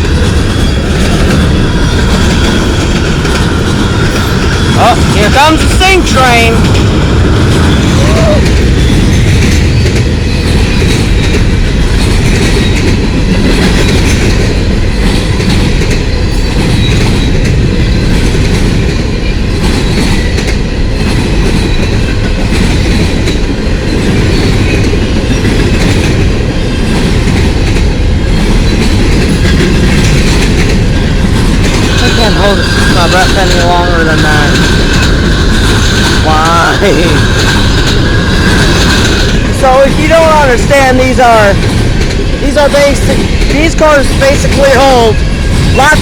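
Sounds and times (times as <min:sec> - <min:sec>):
freight train wheels clattering: 0:00.0 - 0:46.0.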